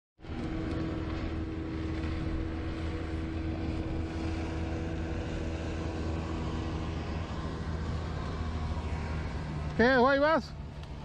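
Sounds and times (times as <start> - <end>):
steady motor hum: 0.2 - 11.0.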